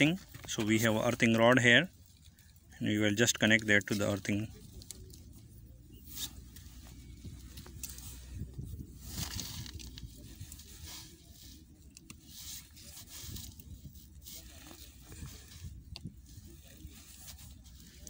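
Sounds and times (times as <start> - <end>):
hands and wire stripper rustling: 0.0 - 18.0
low steady rumble: 0.0 - 18.0.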